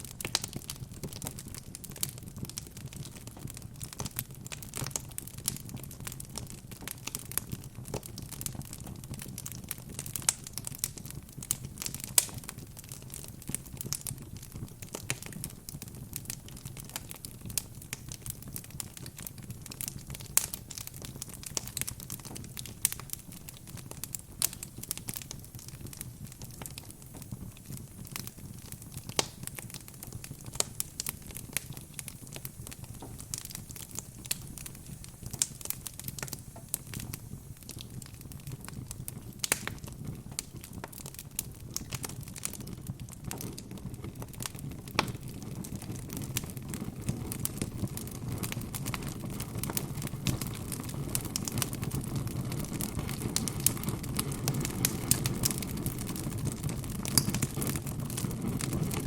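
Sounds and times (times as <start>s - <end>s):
wood fire crackling and popping: 0.0s - 59.0s
low rumble of flames: 0.1s - 59.0s.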